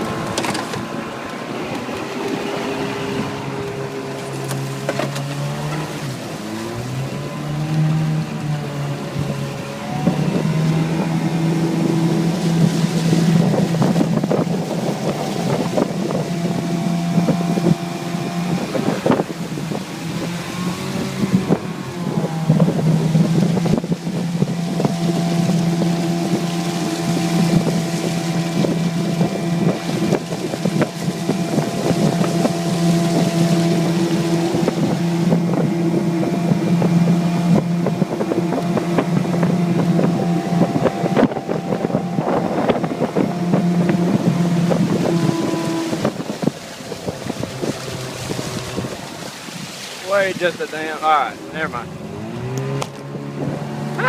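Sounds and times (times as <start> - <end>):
outboard motor running: 0.0 - 54.0
wind buffeting microphone: 0.0 - 54.0.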